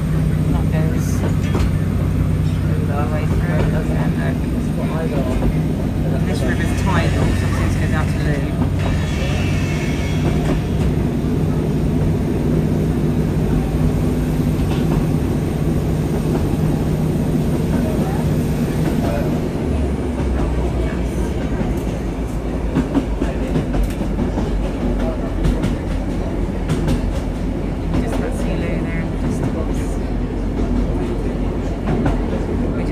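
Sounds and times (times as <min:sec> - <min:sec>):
train running: 0:00.0 - 0:32.9.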